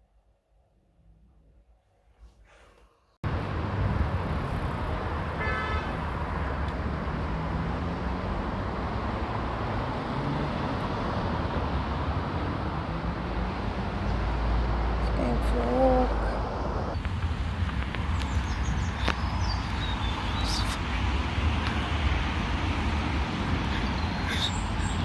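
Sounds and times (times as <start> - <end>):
road traffic noise: 3.2 - 25.0.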